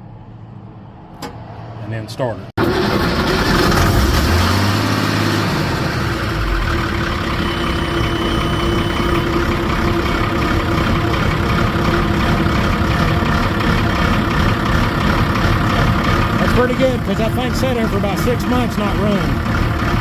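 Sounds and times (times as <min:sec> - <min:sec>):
diesel engine idling: 0:02.6 - 0:20.0.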